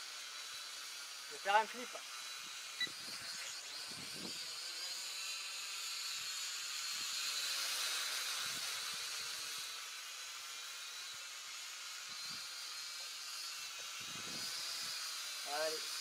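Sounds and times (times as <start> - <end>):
toy quadcopter whine: 0.0 - 16.0.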